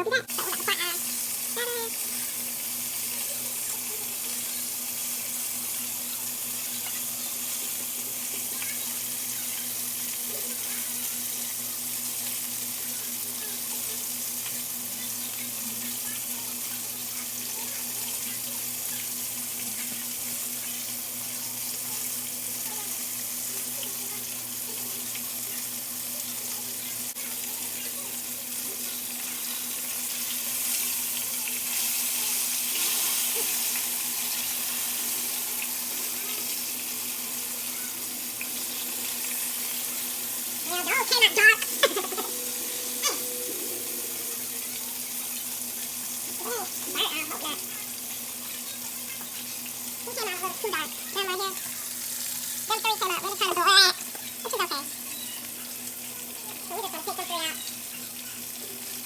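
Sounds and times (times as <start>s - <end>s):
food sizzling in hot oil: 0.2s - 59.0s.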